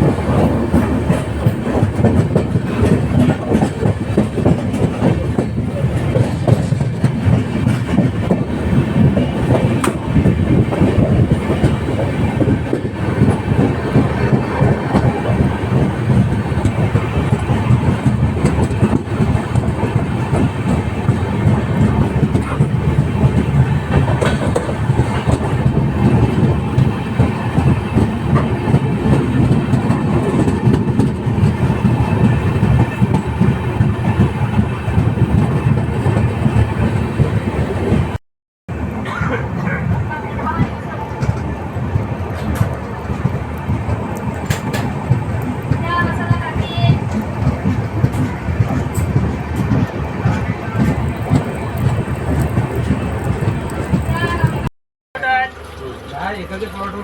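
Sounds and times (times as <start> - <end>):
train wheels clattering on rails: 0.0 - 54.7.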